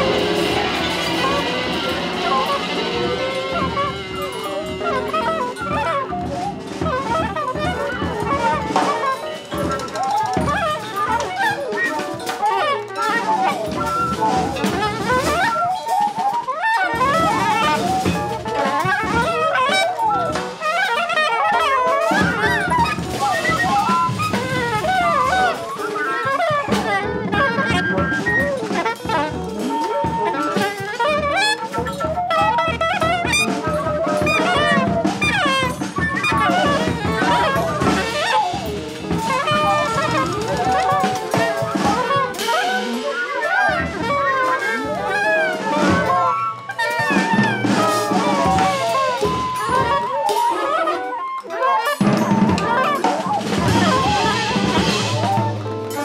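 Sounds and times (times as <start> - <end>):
drum kit: 0.0 - 56.0
jazz ensemble horns: 0.0 - 56.0.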